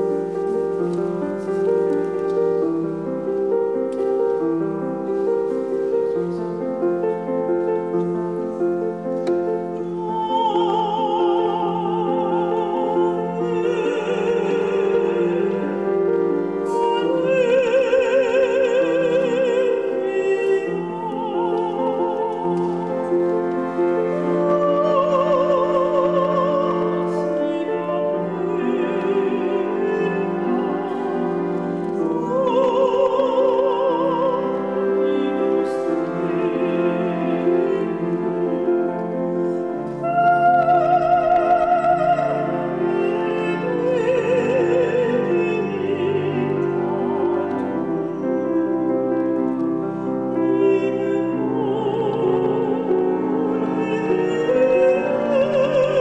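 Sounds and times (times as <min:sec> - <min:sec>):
organ holding sustained notes: 0:00.0 - 0:56.0
piano: 0:00.0 - 0:56.0
soprano singing with vibrato: 0:00.0 - 0:56.0.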